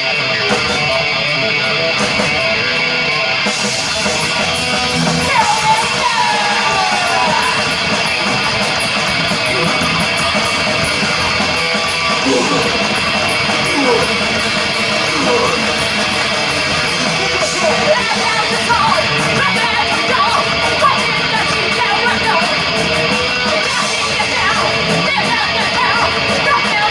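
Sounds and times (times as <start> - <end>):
electric guitar bending pitch: 0.0 - 25.1
heavy metal band playing: 0.0 - 26.9.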